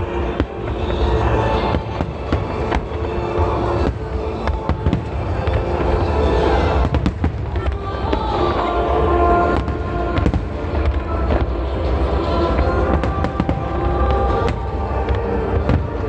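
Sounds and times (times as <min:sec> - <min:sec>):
fireworks bursting and crackling: 0:00.0 - 0:16.0
music playing: 0:00.0 - 0:16.0.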